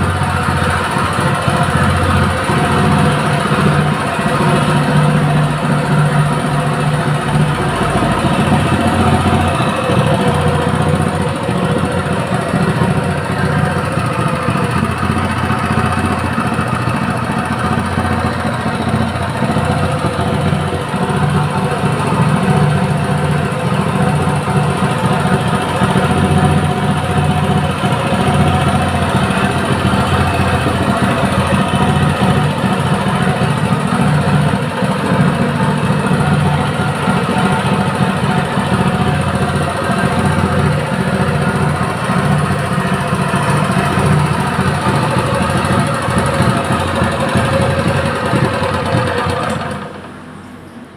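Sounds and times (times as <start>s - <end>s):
small engine running steadily: 0.0s - 50.9s.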